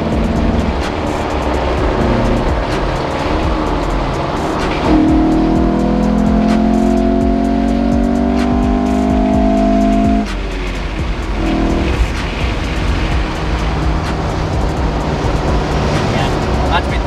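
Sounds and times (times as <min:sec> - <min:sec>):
car engine accelerating: 0:00.0 - 0:17.0
tyre and road noise: 0:00.0 - 0:17.0.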